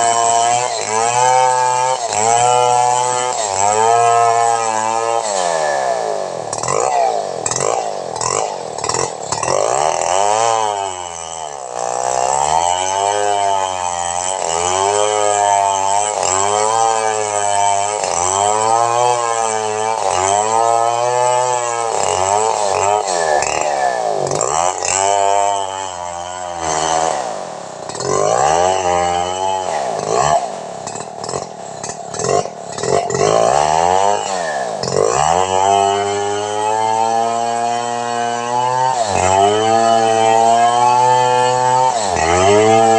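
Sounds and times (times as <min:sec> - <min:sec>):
chainsaw cutting through log: 0:00.0 - 0:42.9.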